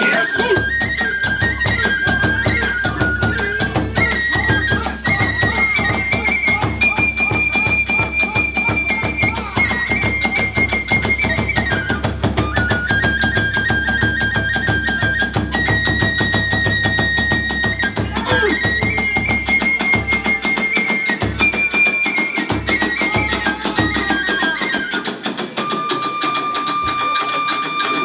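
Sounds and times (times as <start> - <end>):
bamboo flute high notes: 0.0 - 28.0
drums and percussion beat: 0.0 - 28.0.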